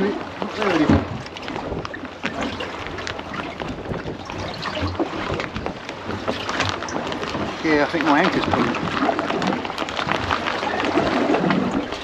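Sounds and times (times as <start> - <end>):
waves slapping boat hull: 0.0 - 12.0
wind: 0.0 - 12.0.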